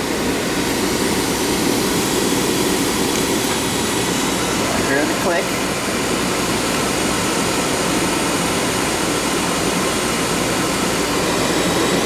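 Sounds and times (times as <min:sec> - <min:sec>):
furnace burner rushing: 0:00.0 - 0:12.0.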